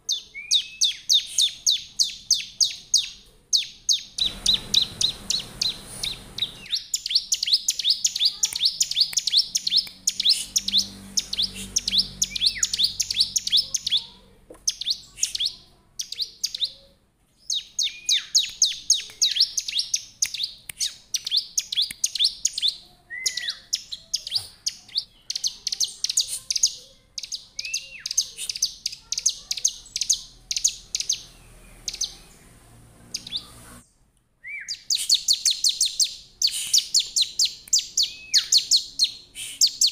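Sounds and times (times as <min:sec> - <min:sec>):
bird singing sharp chirps: 0:00.1 - 0:14.1, 0:17.5 - 0:33.8, 0:34.5 - 0:39.9.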